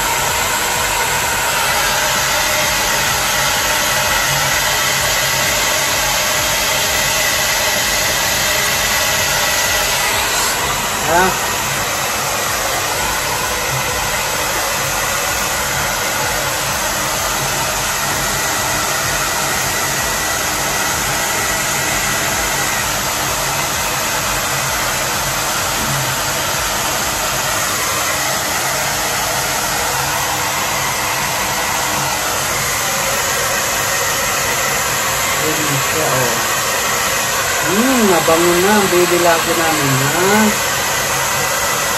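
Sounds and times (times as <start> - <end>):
hair dryer blowing: 0.0 - 41.9.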